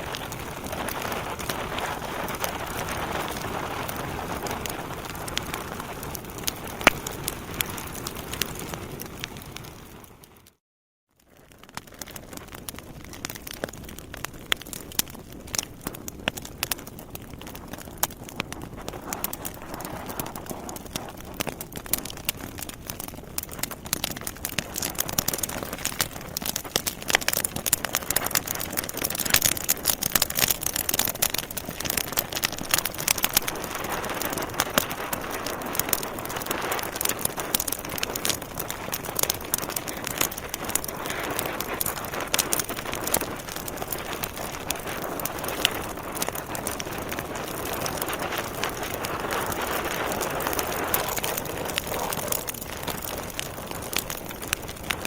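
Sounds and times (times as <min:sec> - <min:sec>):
wood fire crackling: 0:00.0 - 0:10.6, 0:11.2 - 0:55.0.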